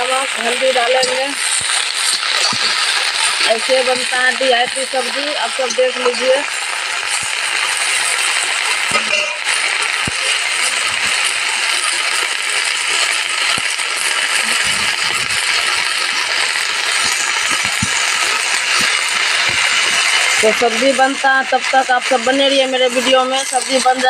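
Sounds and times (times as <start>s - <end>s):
vegetables sizzling in a wok: 0.0s - 24.0s.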